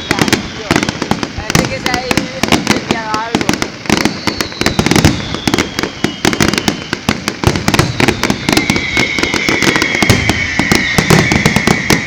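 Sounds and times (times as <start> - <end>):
fireworks crackling bangs: 0.0 - 12.0
fireworks whistling: 0.0 - 12.0.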